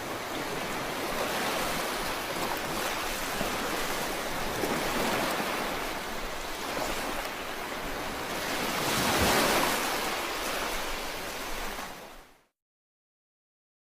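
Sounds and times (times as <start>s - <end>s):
sea waves washing in: 0.0s - 12.3s.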